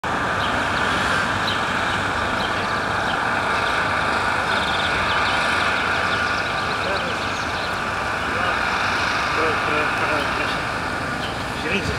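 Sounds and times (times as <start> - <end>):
street traffic noise: 0.0 - 11.9.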